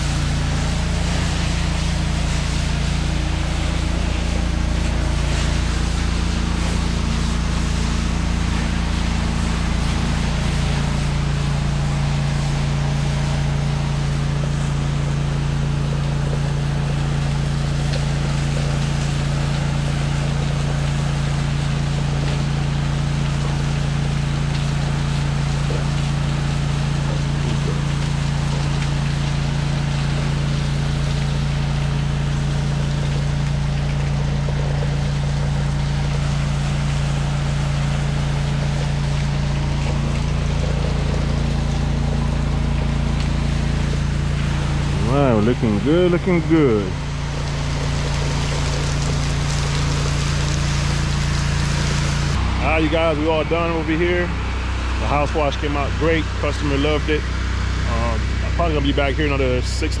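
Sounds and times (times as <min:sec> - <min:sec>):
water spraying hiss: 0:00.0 - 0:57.2
pressure washer engine running: 0:00.0 - 1:00.0.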